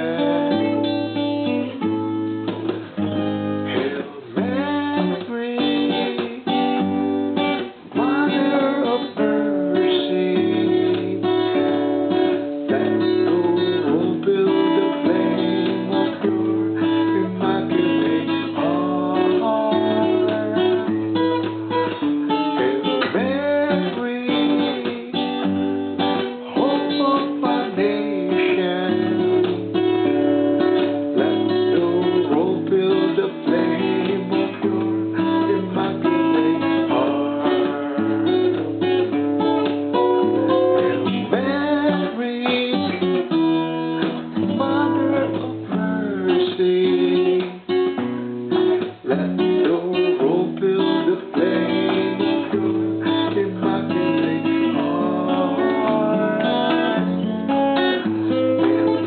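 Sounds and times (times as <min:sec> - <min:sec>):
acoustic guitar playing hymn tune: 0:00.0 - 0:59.0.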